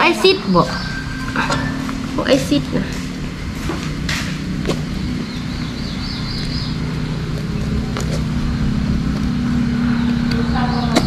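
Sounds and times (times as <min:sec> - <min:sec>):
engine-like hum: 0:00.0 - 0:11.0.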